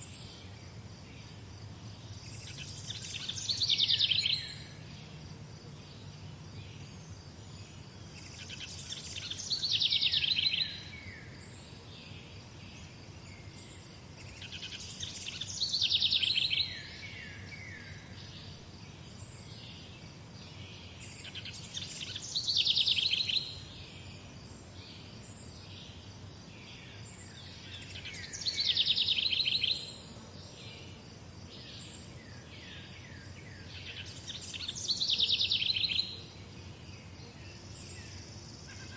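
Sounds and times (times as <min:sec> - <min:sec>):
faint low background hum: 0:00.0 - 0:38.9
songbird trilling song: 0:00.0 - 0:38.9.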